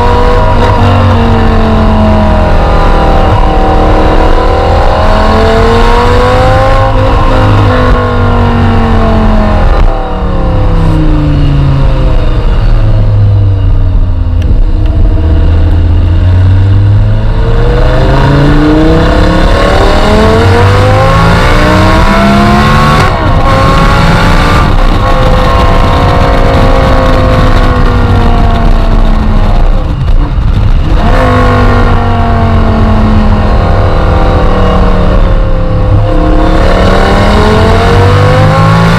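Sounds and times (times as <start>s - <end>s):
loud car engine revving: 0.0s - 38.9s.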